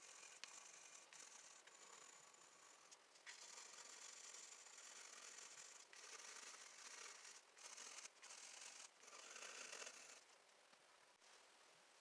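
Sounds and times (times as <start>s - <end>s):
pencil shading on paper: 0.0s - 10.3s.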